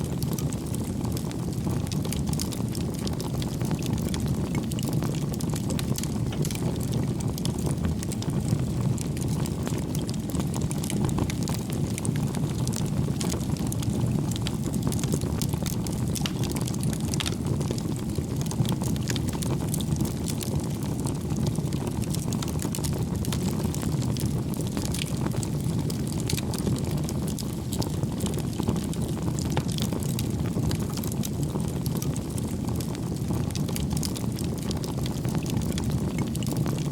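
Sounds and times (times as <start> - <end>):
fire flames rumbling: 0.0 - 36.9
firewood crackling and popping: 0.0 - 36.9.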